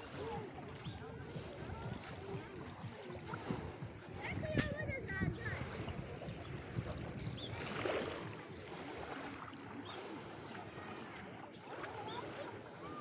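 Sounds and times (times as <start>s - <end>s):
wind on microphone: 0.0s - 11.3s
water lapping on shore: 0.0s - 13.0s.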